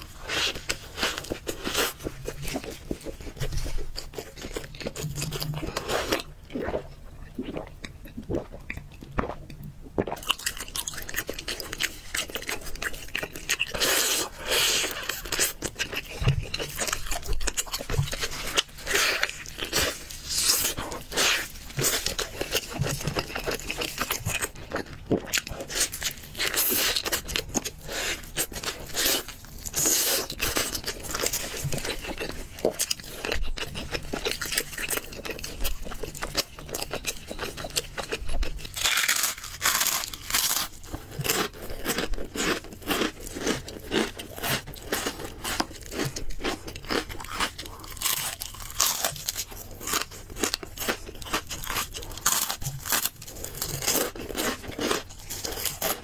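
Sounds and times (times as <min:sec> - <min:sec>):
chewing and biting food: 0:00.0 - 0:56.0
crunching and crackling food: 0:00.0 - 0:56.0.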